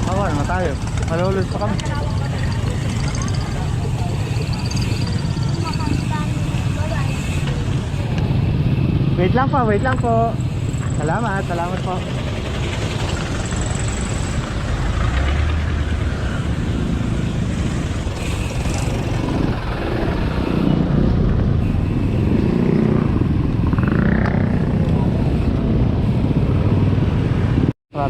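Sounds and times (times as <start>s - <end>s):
vehicle engines running: 0.0s - 27.7s
road noise: 0.0s - 28.0s.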